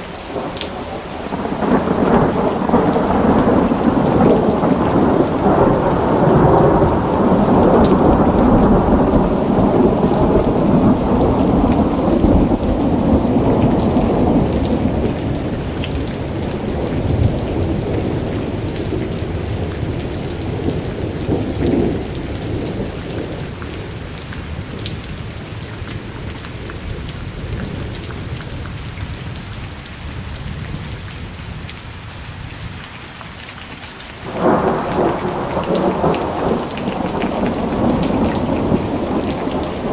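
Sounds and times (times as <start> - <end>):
steady rain on hard surfaces: 0.0 - 39.9
rolling thunder: 0.3 - 29.4, 34.2 - 39.9.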